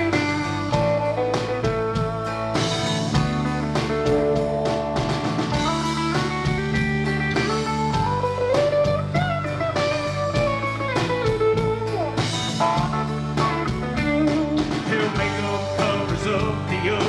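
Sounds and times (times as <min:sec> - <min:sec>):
lead guitar with bending notes: 0:00.0 - 0:17.0
steady drum beat: 0:00.0 - 0:17.0.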